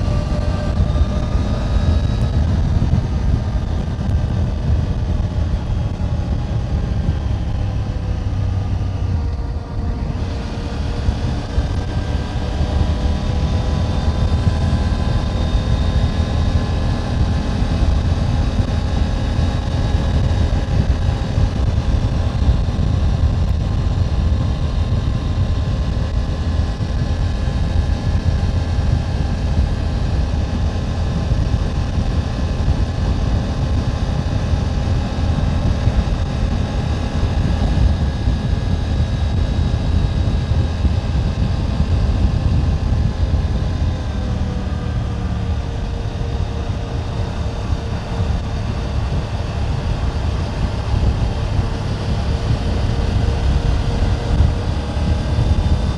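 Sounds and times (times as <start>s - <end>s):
motorcycle engine running: 0.0s - 55.9s
wind on microphone: 0.0s - 55.9s.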